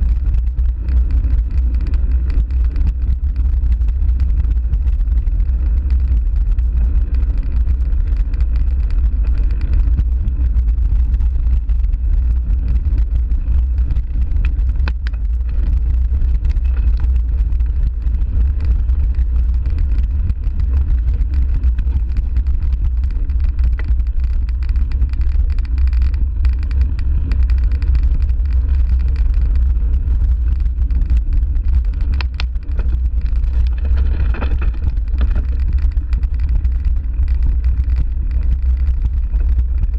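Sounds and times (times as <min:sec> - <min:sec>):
bike tyres on dirt: 0:00.0 - 0:39.9
wind rumble on microphone: 0:00.0 - 0:39.9
bike rattling clicks: 0:00.2 - 0:10.6, 0:11.2 - 0:39.9.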